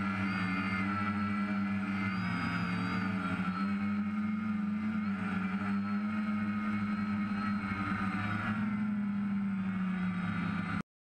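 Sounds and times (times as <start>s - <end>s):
drone propellers buzzing: 0.0s - 10.8s.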